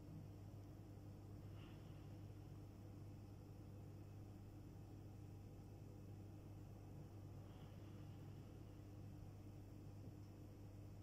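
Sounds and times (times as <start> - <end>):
faint low hum: 0.0 - 11.0
light hiss: 0.0 - 11.0.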